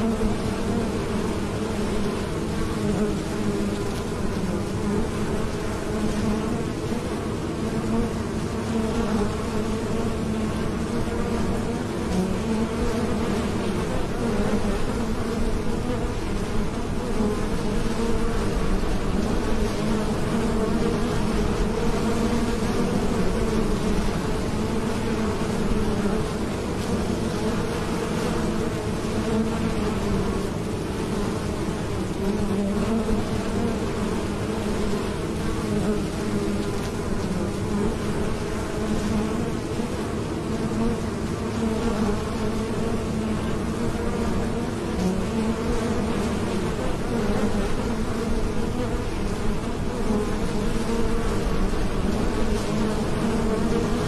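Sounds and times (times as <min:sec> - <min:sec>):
honey bees buzzing: 0:00.0 - 0:54.0.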